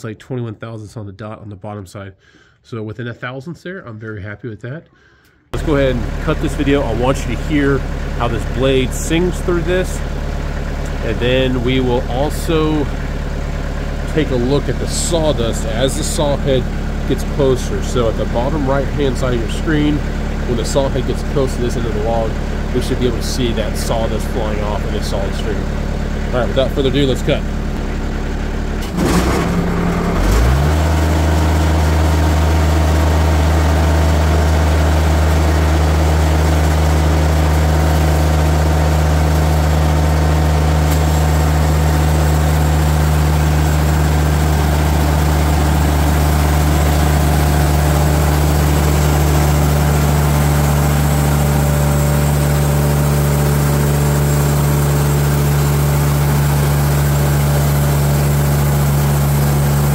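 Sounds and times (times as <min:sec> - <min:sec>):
sawmill engine running: 0:05.6 - 0:59.9.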